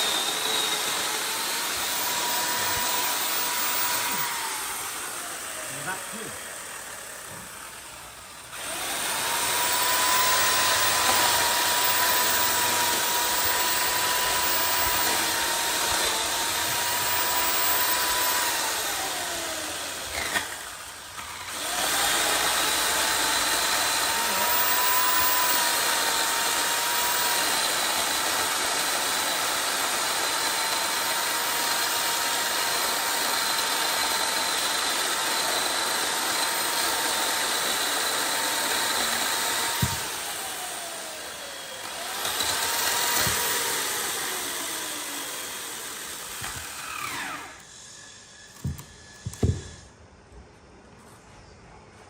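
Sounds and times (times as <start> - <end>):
chainsaw cutting wood: 0.0 - 47.8, 48.5 - 49.8.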